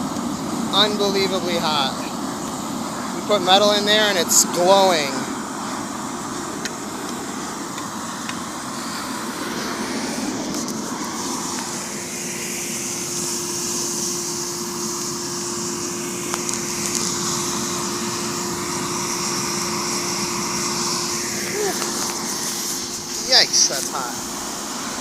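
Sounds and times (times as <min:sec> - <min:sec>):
air blower rushing: 0:00.0 - 0:25.0
steady hum: 0:00.0 - 0:25.0.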